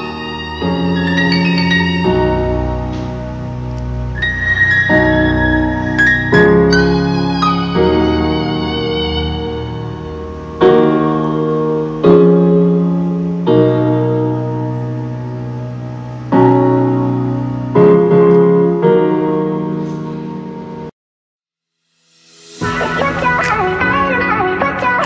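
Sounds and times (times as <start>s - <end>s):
slow piano chords ringing: 0.0s - 20.9s.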